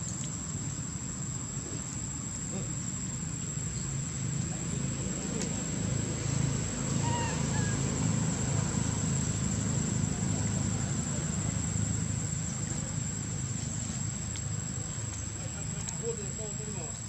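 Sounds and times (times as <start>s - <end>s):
engine rumble: 0.0s - 17.0s.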